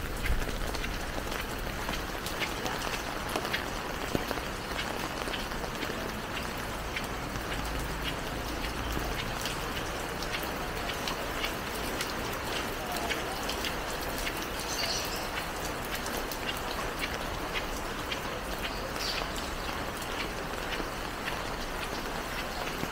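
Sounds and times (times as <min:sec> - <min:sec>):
raindrops ticking close by: 0:00.0 - 0:22.9
steady rain falling: 0:00.0 - 0:22.9.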